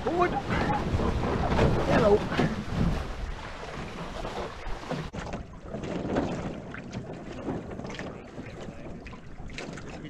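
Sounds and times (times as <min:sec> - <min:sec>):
water splashing along hulls: 0:00.0 - 0:10.0.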